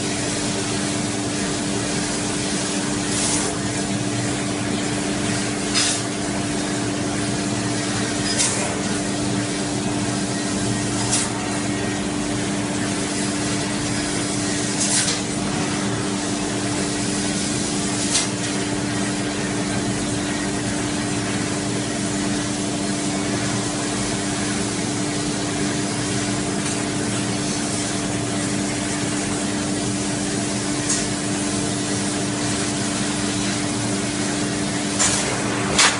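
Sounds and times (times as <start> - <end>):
laser cutter hiss: 0.0 - 35.9
machine hum: 0.0 - 35.9.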